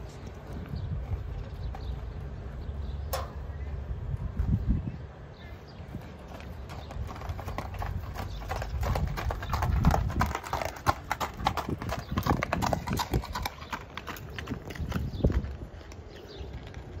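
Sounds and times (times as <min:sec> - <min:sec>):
horse hooves on gravel: 0:00.0 - 0:03.2, 0:05.8 - 0:17.0.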